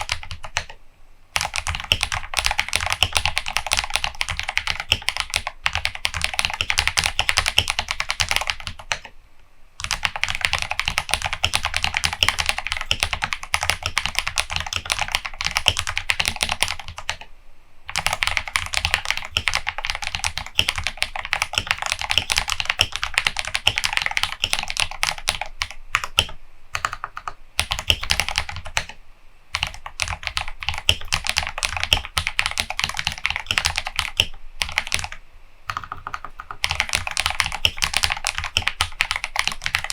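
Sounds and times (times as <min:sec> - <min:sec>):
mechanical keyboard typing clacks: 0:00.0 - 0:00.7, 0:01.4 - 0:09.1, 0:09.8 - 0:17.2, 0:17.9 - 0:29.0, 0:29.6 - 0:39.9.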